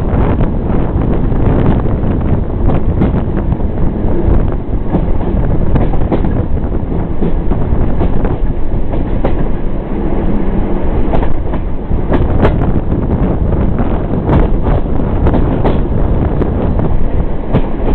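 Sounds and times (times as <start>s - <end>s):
train wheels rumbling on track: 0.0s - 17.9s.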